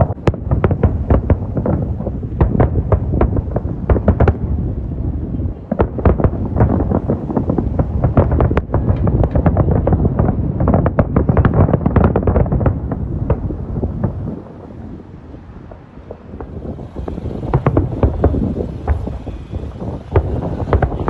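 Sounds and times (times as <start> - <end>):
fireworks bangs and crackles: 0.0 - 21.0
low rumble: 0.4 - 21.0.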